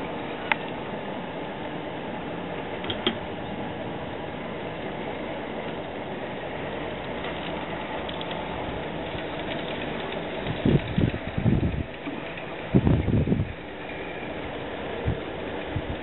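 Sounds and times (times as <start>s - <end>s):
model train rolling whir: 0.0s - 16.0s.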